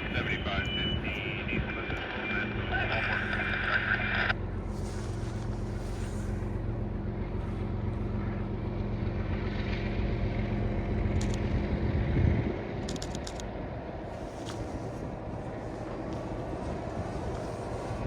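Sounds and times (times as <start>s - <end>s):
passing locomotive engine: 0.0s - 18.0s.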